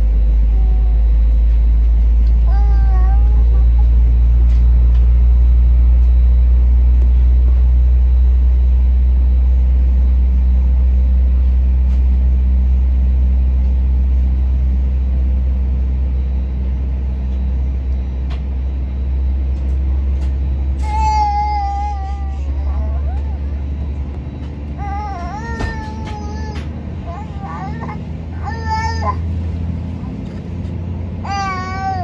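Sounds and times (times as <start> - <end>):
jet engines deep rumble in cabin: 0.0 - 32.0.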